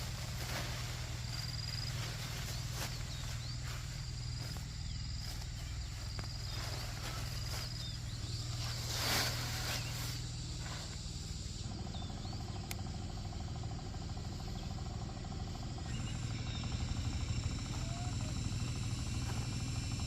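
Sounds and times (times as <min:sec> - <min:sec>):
insects trilling: 0:00.0 - 0:20.0
steady low hum: 0:00.0 - 0:20.0
bird chirps: 0:01.3 - 0:12.9, 0:14.4 - 0:20.0.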